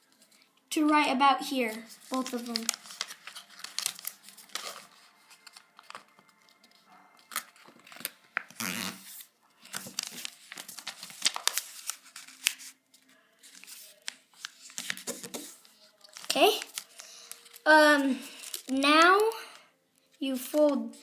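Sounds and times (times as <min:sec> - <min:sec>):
paper folding and crinkling: 0:00.0 - 0:00.6, 0:01.5 - 0:21.0.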